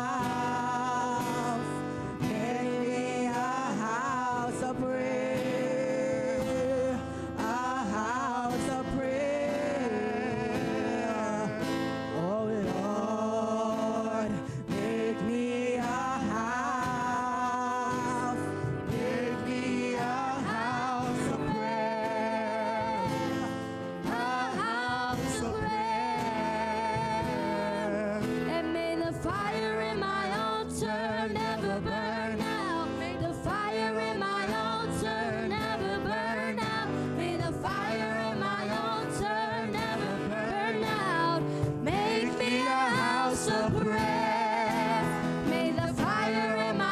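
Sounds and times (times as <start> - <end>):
voices singing with vibrato: 0.0 - 46.9.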